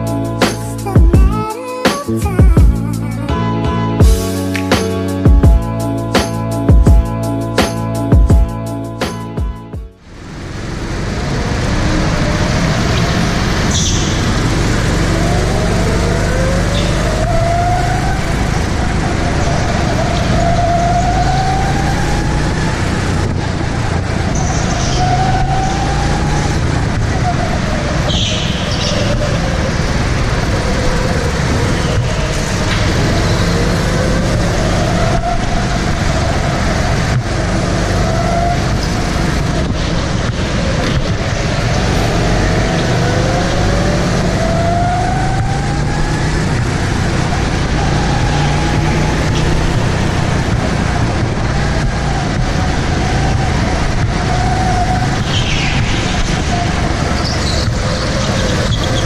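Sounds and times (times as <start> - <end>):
go-kart engines revving: 10.1 - 59.0.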